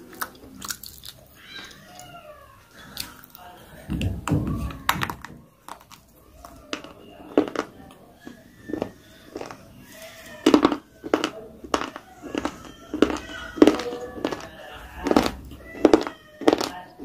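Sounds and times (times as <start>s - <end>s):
person chewing with crunches: 0.0s - 2.0s, 2.8s - 3.4s, 4.7s - 17.0s.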